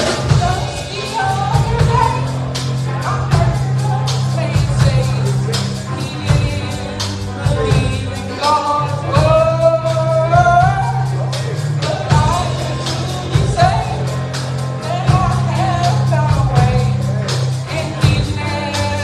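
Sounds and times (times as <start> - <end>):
live band playing: 0.0 - 19.0
person singing: 0.0 - 19.0.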